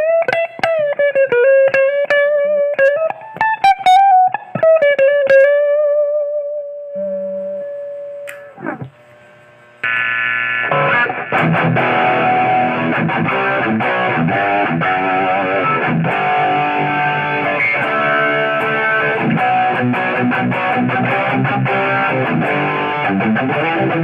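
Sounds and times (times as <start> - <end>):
electric guitar chords and notes: 0.0 - 24.0.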